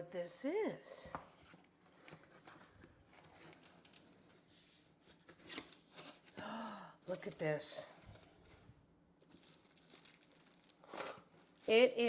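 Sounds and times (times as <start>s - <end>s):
package rustling and scraping: 1.2s - 6.4s, 7.1s - 12.0s.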